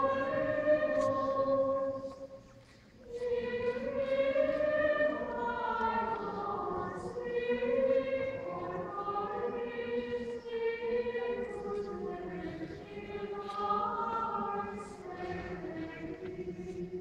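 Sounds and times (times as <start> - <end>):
choir chanting: 0.0 - 2.4, 3.0 - 17.0.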